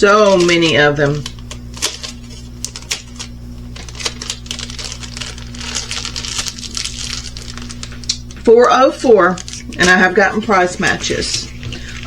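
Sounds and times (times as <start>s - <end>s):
plastic packaging crinkling: 0.0s - 12.0s
steady low hum: 0.0s - 12.0s.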